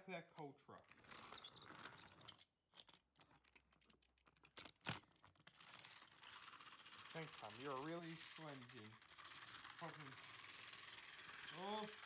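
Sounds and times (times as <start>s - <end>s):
faint handling clicks and rustles: 0.8s - 12.0s.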